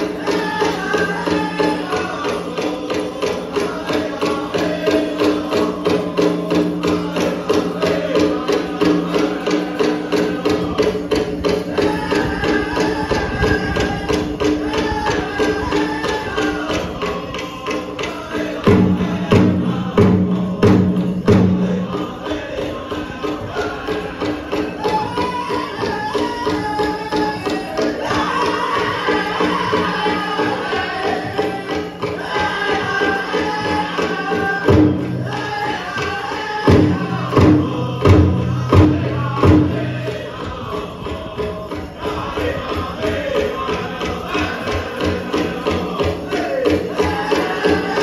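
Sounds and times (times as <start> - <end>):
drum group singing: 0.0 - 48.0
heavy drum strokes: 0.0 - 48.0
steady drumbeat: 0.0 - 48.0.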